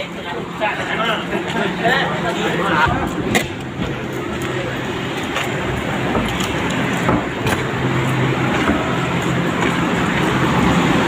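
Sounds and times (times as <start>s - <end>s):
electric train humming: 0.0s - 11.0s.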